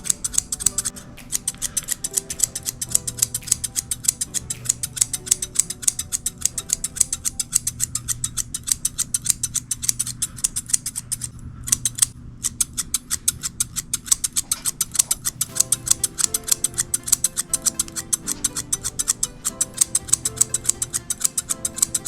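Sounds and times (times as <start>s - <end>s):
grooming shears snipping: 0.0s - 22.0s.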